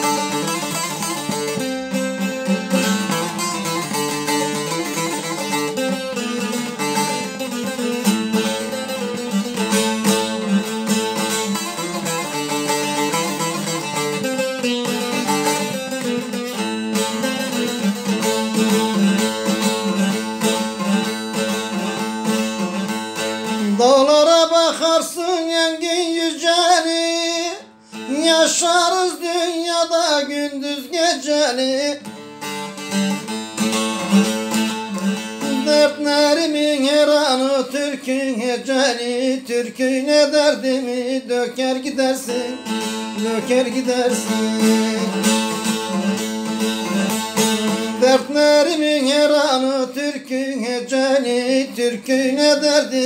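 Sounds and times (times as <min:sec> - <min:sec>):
man singing: 0:00.0 - 0:53.0
plucked strings folk music: 0:00.0 - 0:53.0.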